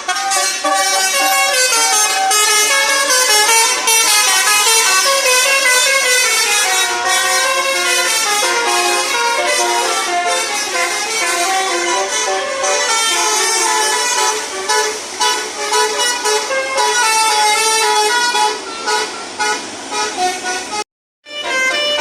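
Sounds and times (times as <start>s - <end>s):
musical vehicle horn tune: 0.0s - 22.0s.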